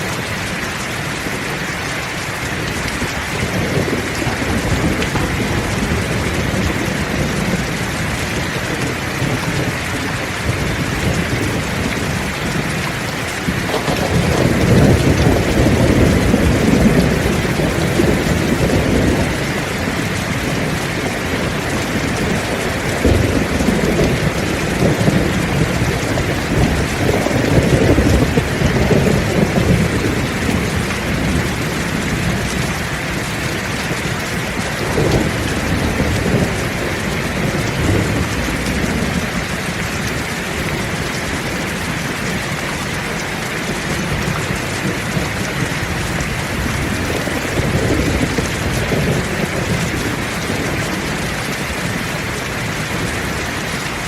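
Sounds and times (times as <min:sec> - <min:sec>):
heavy rain falling: 0:00.0 - 0:54.0
thunder rumbling: 0:00.0 - 0:54.0.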